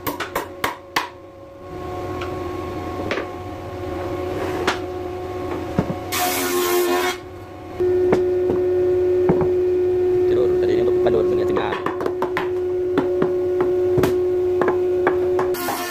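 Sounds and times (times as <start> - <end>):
machine hum: 0.0 - 15.9.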